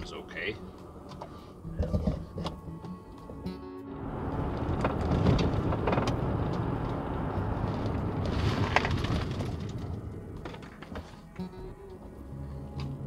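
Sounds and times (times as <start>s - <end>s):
road and tyre rumble: 0.7s - 13.0s
car engine noise: 0.9s - 11.4s.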